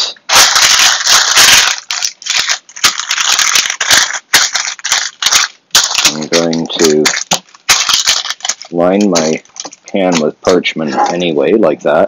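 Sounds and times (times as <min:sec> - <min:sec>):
parchment paper crinkling: 0:00.3 - 0:11.3.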